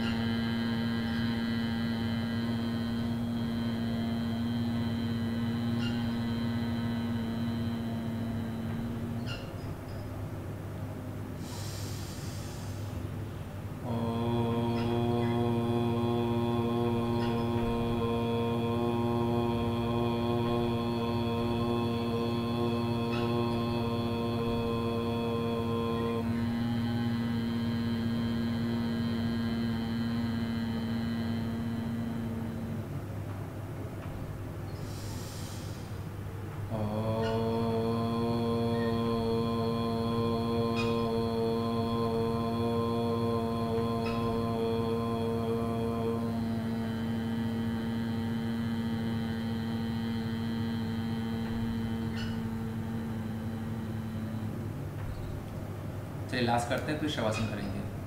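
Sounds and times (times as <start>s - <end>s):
man humming low chant: 0.0s - 10.6s, 11.2s - 58.0s.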